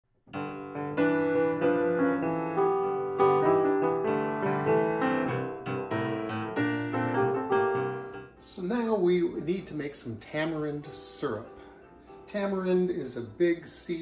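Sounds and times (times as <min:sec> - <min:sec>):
solo piano music: 0:00.2 - 0:14.0.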